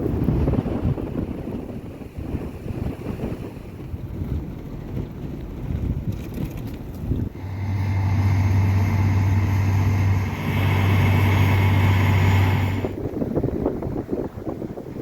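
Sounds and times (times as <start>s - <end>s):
vehicle engine humming: 0.0s - 14.4s
wind buffeting microphone: 0.0s - 15.0s.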